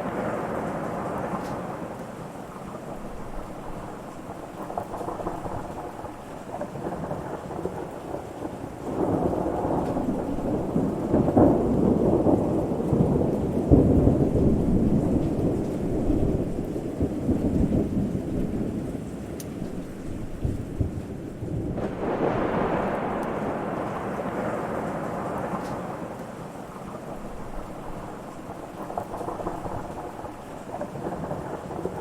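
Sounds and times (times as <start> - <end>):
steady rain: 0.0 - 32.0
thunder rumbling: 0.0 - 32.0.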